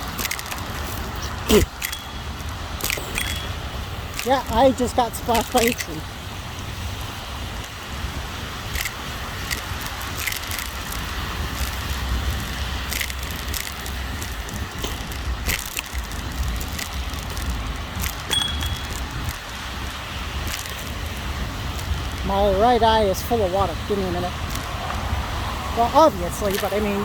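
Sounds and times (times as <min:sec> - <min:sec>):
scooter frame rattling: 0:00.0 - 0:06.1, 0:08.4 - 0:27.0
scooter wheels rumbling: 0:00.0 - 0:27.0.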